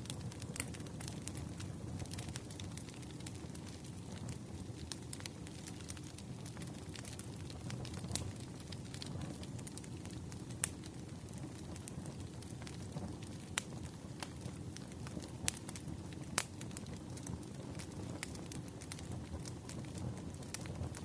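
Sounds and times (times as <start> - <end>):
firewood crackling: 0.0 - 21.0
low rush of flame: 0.0 - 21.0.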